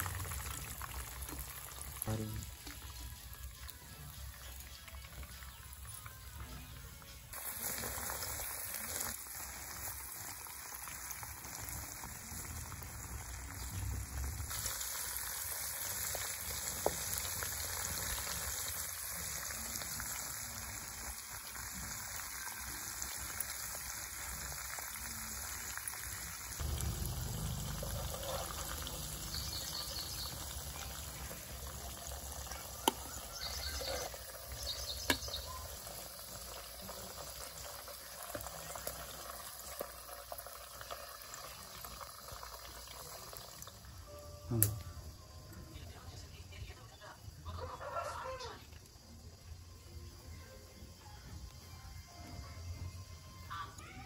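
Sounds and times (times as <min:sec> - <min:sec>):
hot oil sizzling and bubbling: 0:00.0 - 0:50.3.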